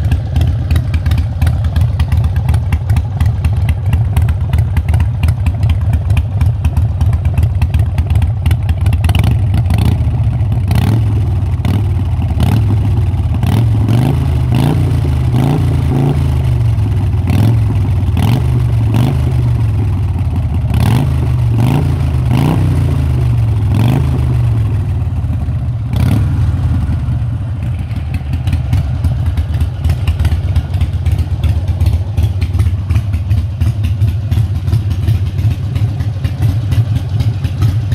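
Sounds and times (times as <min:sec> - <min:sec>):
motorcycle engine revving and idling: 0:00.0 - 0:37.9.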